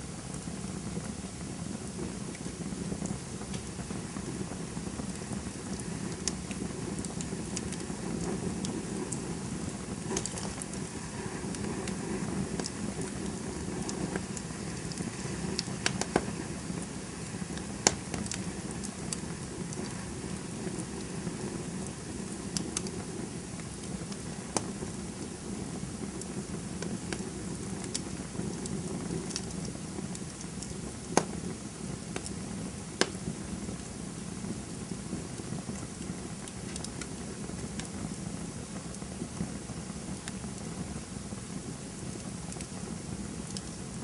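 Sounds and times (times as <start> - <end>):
campfire burning and crackling: 0.0 - 44.0.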